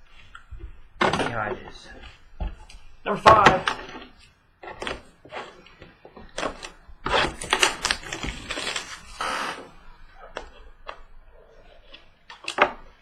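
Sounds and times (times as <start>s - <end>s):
crinkly rustling: 0.0s - 13.0s.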